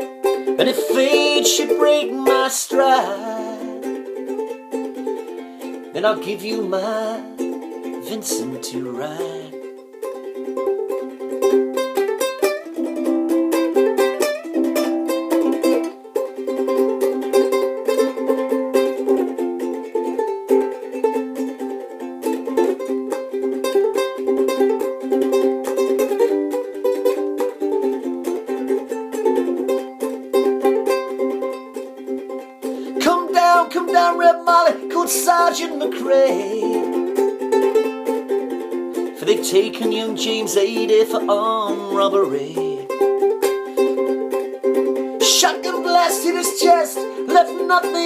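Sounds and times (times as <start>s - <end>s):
ukulele playing: 0.0s - 48.0s.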